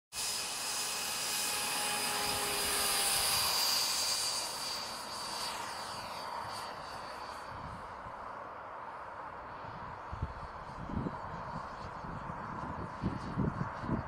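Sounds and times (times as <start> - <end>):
high-pitched electric fan whine: 0.1 - 14.0.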